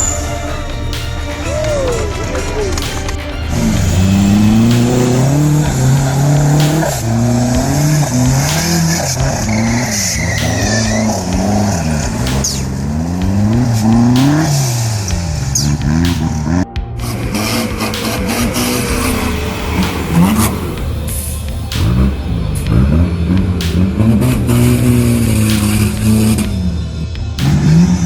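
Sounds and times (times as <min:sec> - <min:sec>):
engine revving hard: 0:00.0 - 0:28.0.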